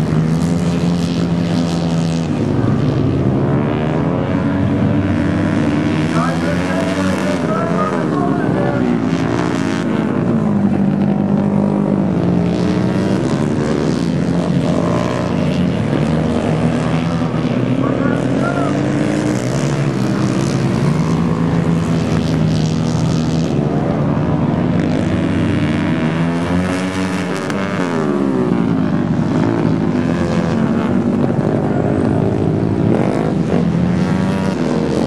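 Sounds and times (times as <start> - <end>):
racing motorcycle engines: 0.0 - 35.0.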